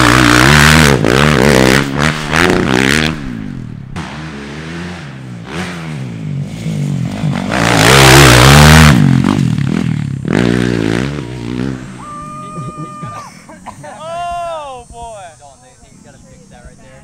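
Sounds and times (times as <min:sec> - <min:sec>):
dirt bike engine revving: 0:00.0 - 0:13.6.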